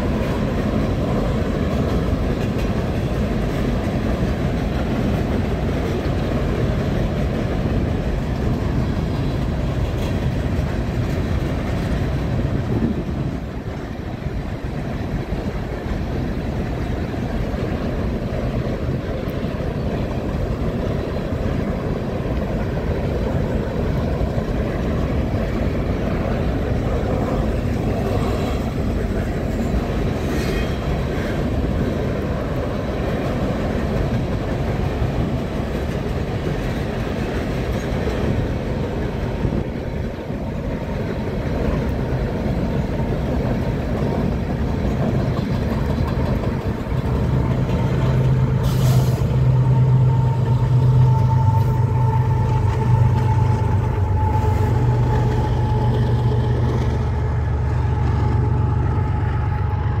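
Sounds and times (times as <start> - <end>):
diesel locomotive engine drone: 0.0 - 60.0
train wheels rumbling on rails: 0.0 - 60.0.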